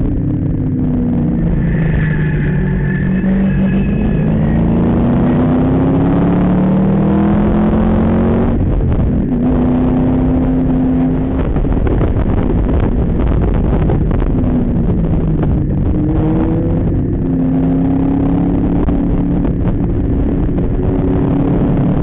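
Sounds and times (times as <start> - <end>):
car engine accelerating: 0.0 - 22.0
road and wind noise: 0.0 - 22.0.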